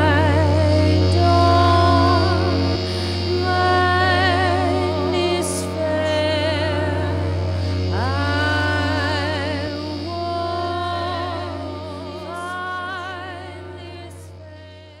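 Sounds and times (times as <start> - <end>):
speaker feedback hum: 0.0 - 15.0.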